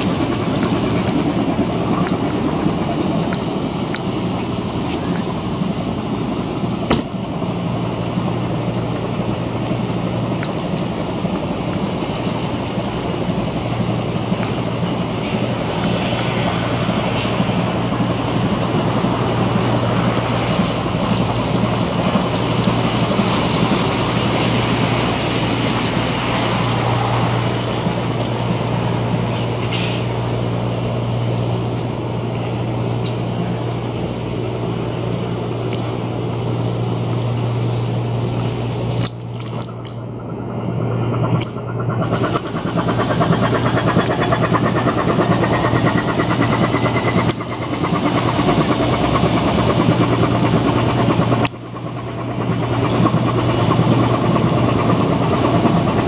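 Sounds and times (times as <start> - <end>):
rushing water wash: 0.0 - 56.0
ship diesel engines droning: 0.0 - 56.0.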